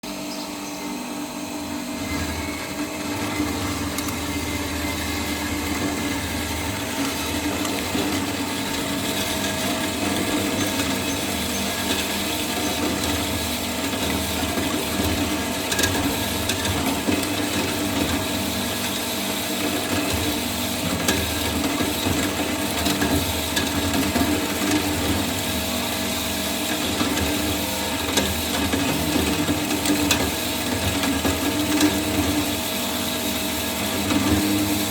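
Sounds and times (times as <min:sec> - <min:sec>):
bandsaw humming: 0:00.0 - 0:34.9.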